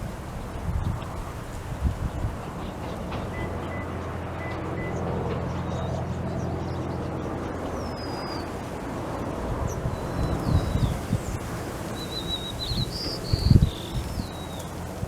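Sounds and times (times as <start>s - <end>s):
motor vehicle humming: 0.0s - 15.0s
birds chirping: 2.0s - 15.0s.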